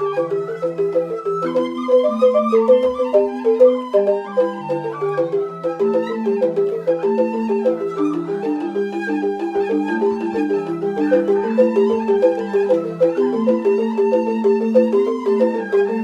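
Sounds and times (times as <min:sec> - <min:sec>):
bamboo xylophone playing: 0:00.0 - 0:16.0.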